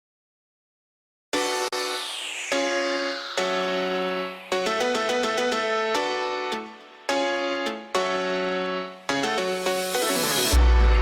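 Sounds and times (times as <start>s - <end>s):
keyboard chords: 1.4s - 11.0s.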